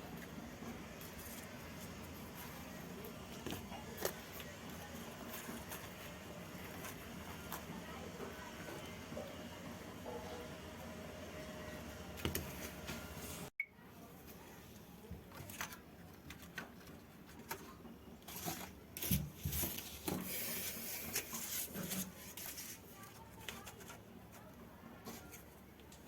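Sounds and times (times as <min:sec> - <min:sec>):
hands handling materials: 0:00.0 - 0:09.2, 0:14.2 - 0:26.0.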